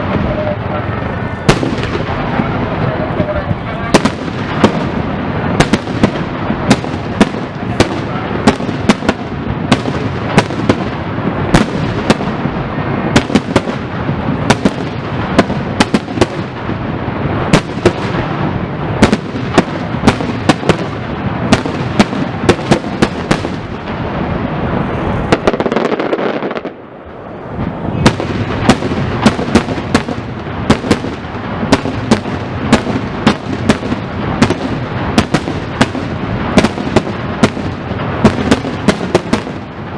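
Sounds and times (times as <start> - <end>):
continuous fireworks rumble: 0.0 - 39.9.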